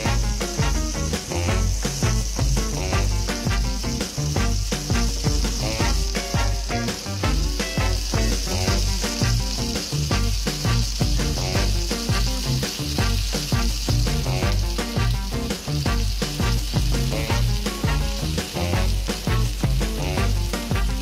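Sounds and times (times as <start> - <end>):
background music with beat: 0.0 - 21.0
rice sizzling in hot oil: 0.0 - 21.0.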